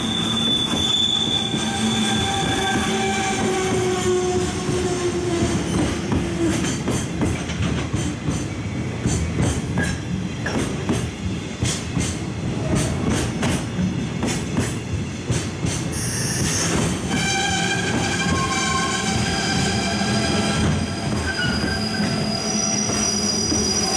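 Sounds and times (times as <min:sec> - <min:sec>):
train rumble: 0:00.0 - 0:23.9
train wheels clicking over rail joints: 0:00.1 - 0:19.7.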